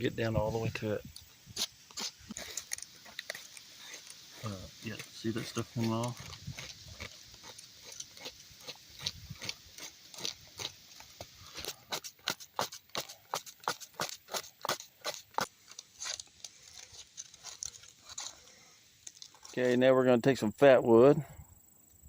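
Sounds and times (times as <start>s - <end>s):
bark scraping by hand: 1.5s - 19.8s.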